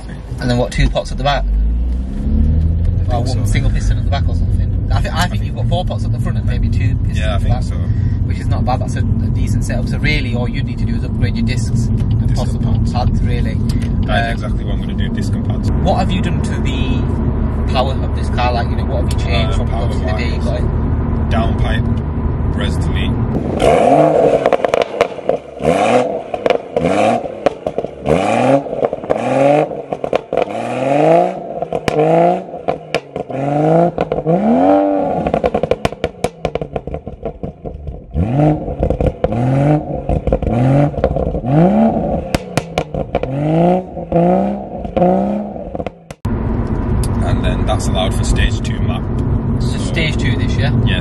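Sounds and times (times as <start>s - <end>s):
exhaust pops and crackles: 0.0s - 30.7s, 31.3s - 51.0s
car engine revving: 0.0s - 51.0s.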